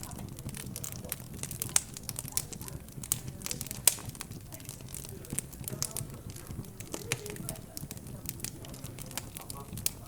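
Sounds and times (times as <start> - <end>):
fireplace crackling: 0.0 - 10.0
murmur of background chatter: 0.0 - 10.0.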